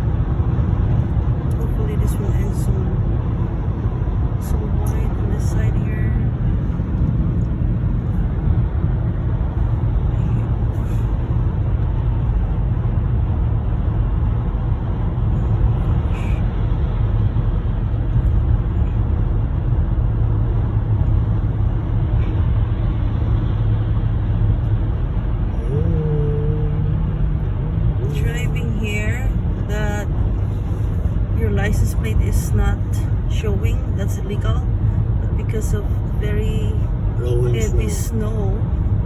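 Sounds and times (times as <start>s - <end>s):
truck cab road and engine noise: 0.0s - 39.0s.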